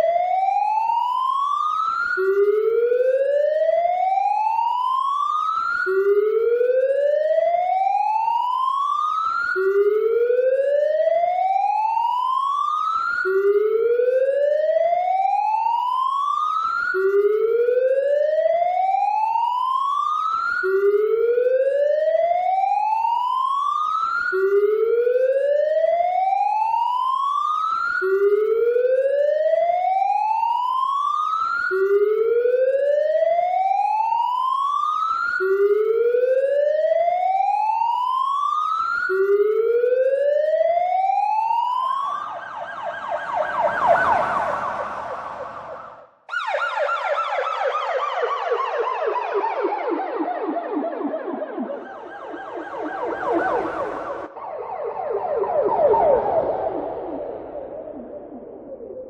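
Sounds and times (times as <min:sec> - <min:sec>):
siren rising whoop: 0:00.0 - 0:59.0
siren with falling tones: 0:00.0 - 0:59.0.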